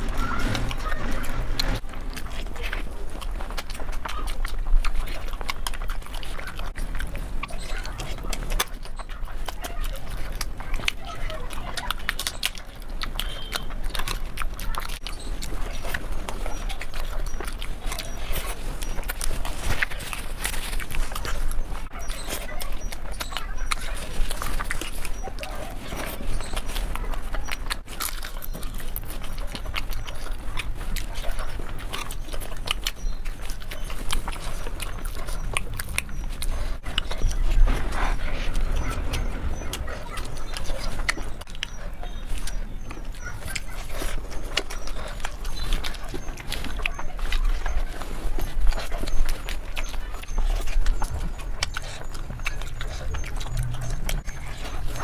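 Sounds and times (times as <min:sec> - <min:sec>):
wet chewing mouth clicks: 0:00.0 - 0:55.0.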